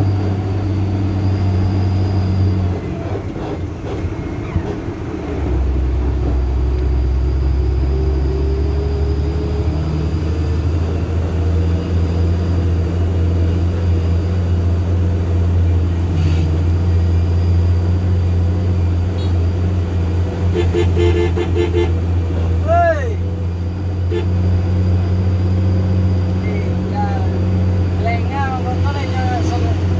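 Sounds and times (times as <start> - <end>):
diesel truck engine droning: 0.0 - 29.9.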